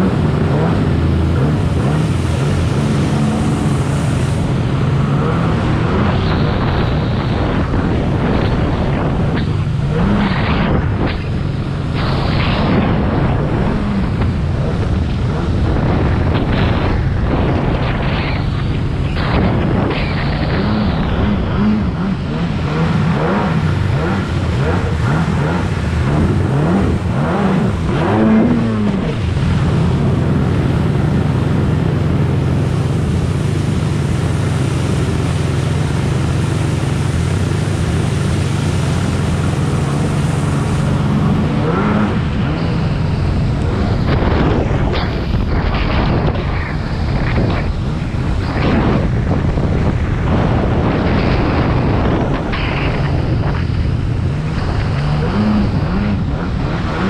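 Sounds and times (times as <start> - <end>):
hull slapping over water: 0.0 - 57.0
jet ski engine drone: 0.0 - 57.0
spray and wind rushing: 0.0 - 57.0.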